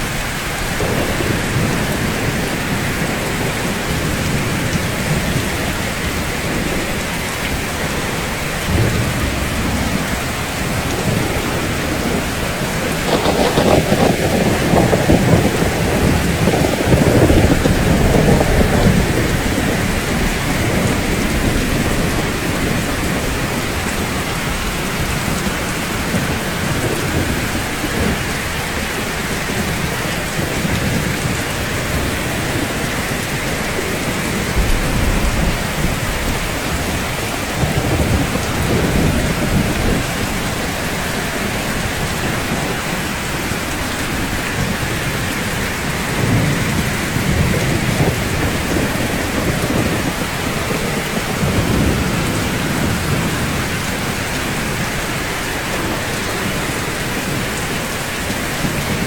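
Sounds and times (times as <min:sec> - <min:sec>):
heavy rainfall: 0:00.0 - 0:59.0
rolling thunder: 0:00.0 - 0:59.0.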